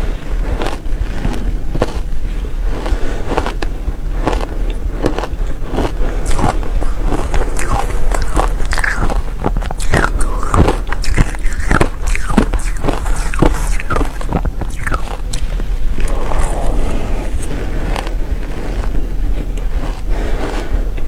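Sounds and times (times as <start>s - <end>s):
crunching shaved ice: 0.0s - 21.0s.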